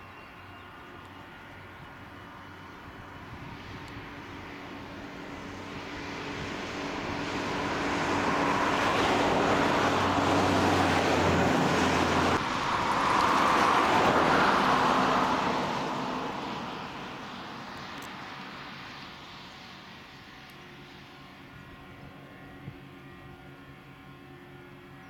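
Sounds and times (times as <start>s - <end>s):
jet engine roar and whine: 0.0s - 25.0s.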